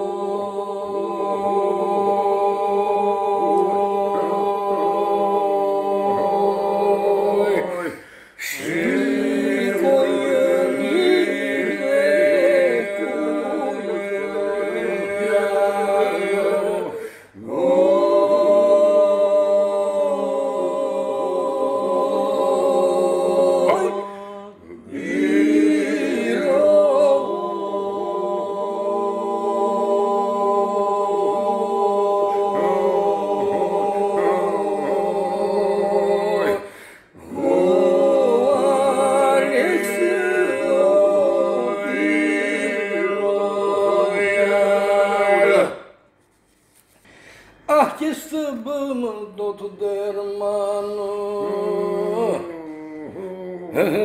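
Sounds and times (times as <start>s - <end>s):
held vocal drone: 0.0s - 45.9s, 49.9s - 54.0s
lead voice singing: 0.0s - 45.9s.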